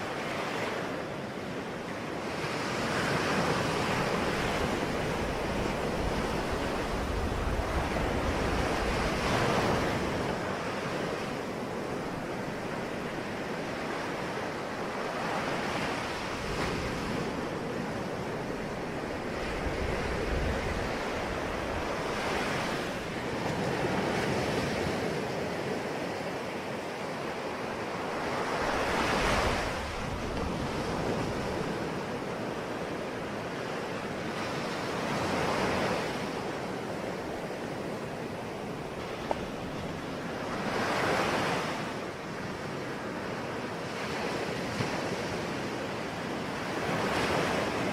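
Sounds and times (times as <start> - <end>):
sea waves breaking: 0.0 - 47.9
steady rush of surf: 0.0 - 47.9.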